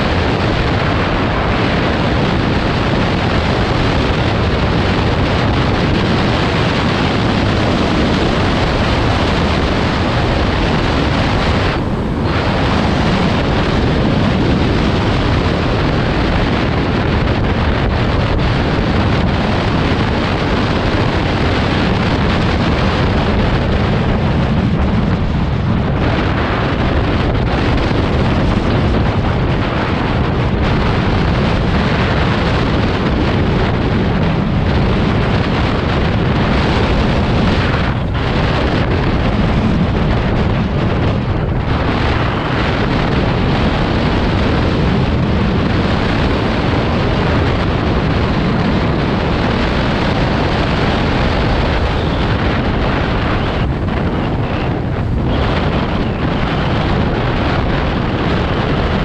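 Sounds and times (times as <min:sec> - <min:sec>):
vehicle engine and road noise: 0:00.0 - 0:59.0
wind buffeting microphone: 0:00.0 - 0:59.0.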